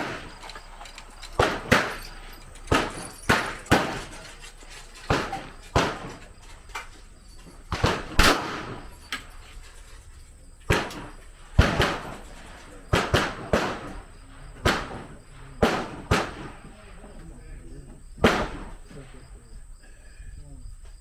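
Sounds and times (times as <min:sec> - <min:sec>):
gunshots echoing: 0:00.0 - 0:09.4, 0:10.6 - 0:17.1, 0:18.1 - 0:19.3.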